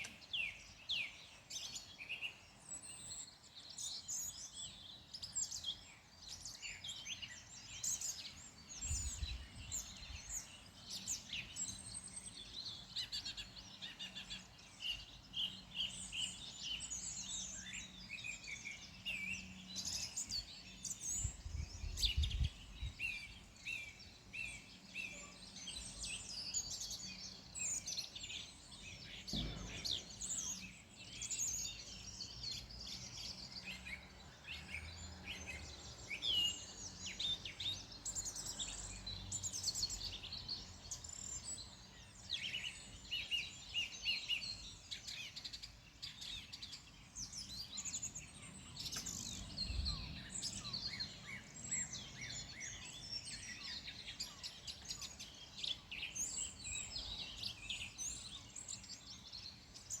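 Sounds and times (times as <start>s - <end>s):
birds chirping and trilling: 0.0s - 60.0s.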